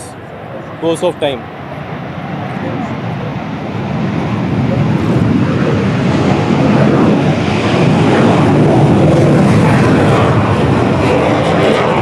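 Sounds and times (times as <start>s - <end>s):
aircraft engine noise: 0.0s - 12.0s.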